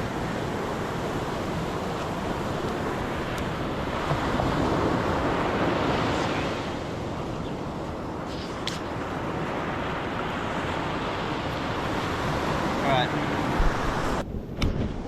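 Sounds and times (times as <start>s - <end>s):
sea water washing: 0.0s - 14.2s
wind buffeting microphone: 0.0s - 15.0s.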